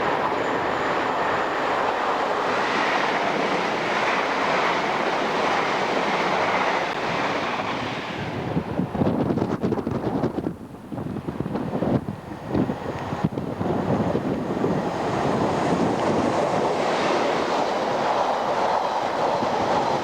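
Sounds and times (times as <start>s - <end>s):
train passing at speed: 0.0s - 9.6s, 11.2s - 20.0s
wind buffeting microphone: 0.0s - 20.0s.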